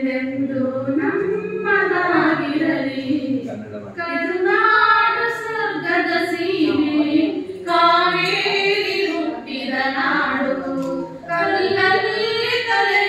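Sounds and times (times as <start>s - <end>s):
two women singing: 0.0s - 13.0s.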